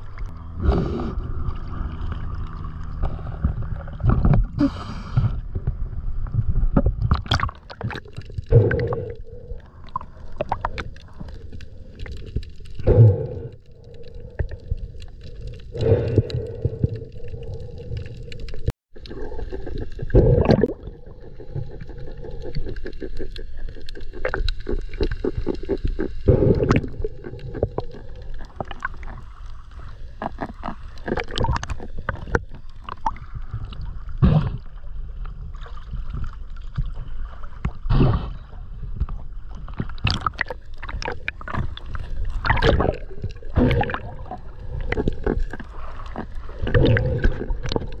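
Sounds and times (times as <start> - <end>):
muffled underwater rumble: 0.0 - 48.0.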